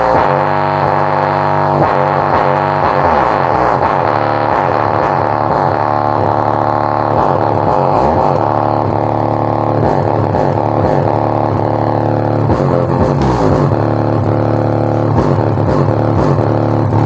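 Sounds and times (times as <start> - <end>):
loud music through a woofer: 0.0 - 17.0.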